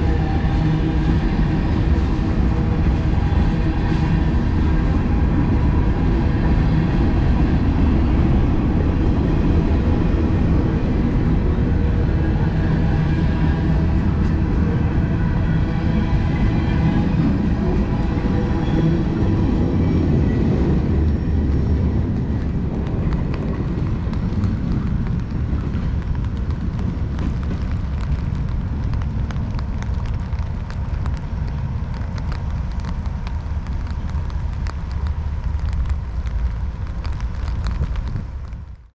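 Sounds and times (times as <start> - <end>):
freight train cars rumbling: 0.0 - 38.9.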